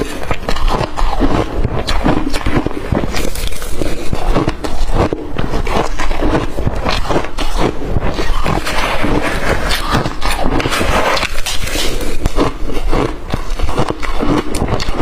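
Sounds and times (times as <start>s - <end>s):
crushed ice being chewed: 0.0s - 15.0s.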